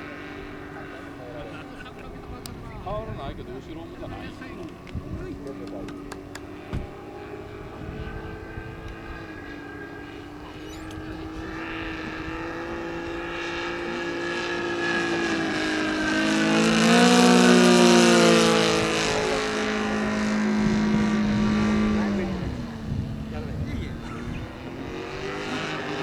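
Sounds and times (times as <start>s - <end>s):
model plane engine droning: 0.0s - 26.0s.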